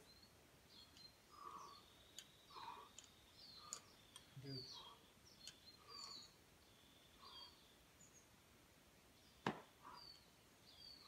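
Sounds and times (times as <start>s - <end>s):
bird chirps: 0.0s - 8.4s, 9.1s - 11.0s.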